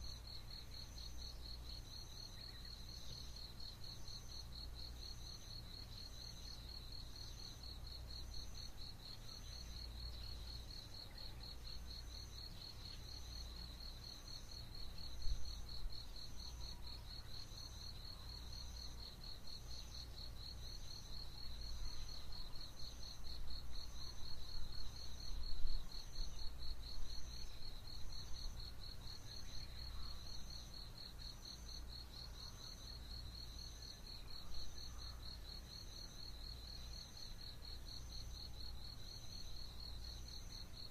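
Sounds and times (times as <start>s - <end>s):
higher insect chirp: 0.0s - 40.9s.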